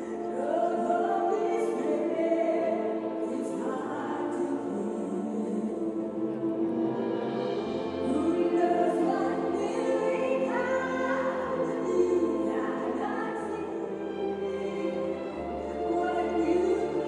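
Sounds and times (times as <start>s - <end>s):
large choir singing: 0.0s - 17.0s
orchestral accompaniment: 0.0s - 17.0s.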